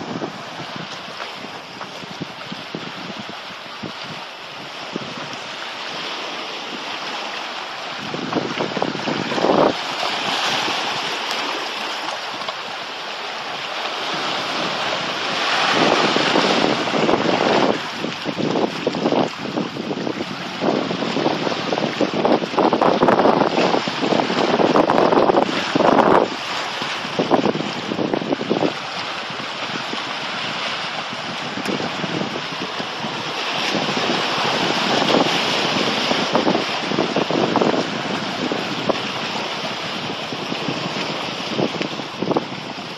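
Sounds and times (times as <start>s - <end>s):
small waves washing over rocks: 0.0s - 42.9s
wind buffeting microphone: 0.0s - 42.9s.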